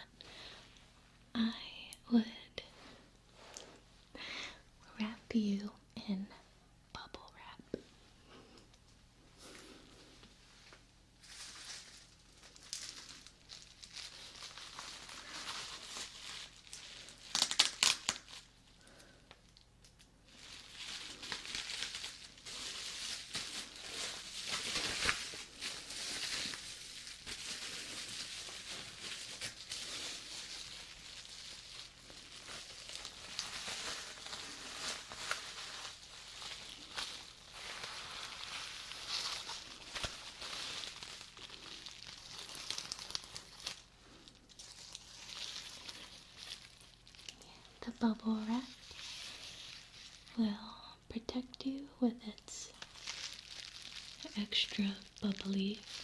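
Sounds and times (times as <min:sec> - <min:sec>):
bubble wrap crackling: 0:09.4 - 0:56.0.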